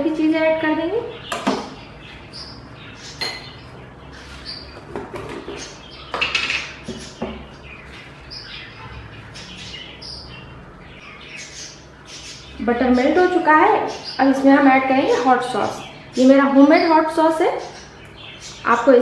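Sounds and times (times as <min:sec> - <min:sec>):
bird chirps: 0:01.0 - 0:19.0.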